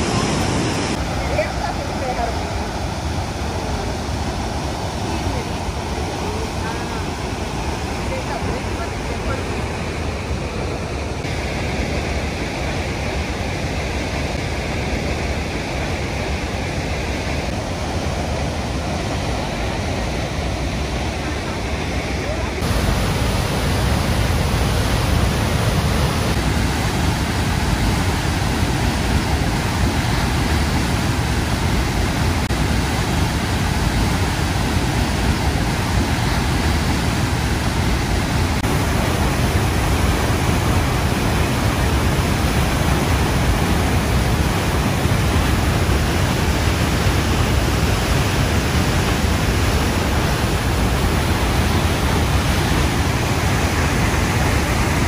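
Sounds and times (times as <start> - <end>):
whitewater rushing over falls: 0.0 - 55.0.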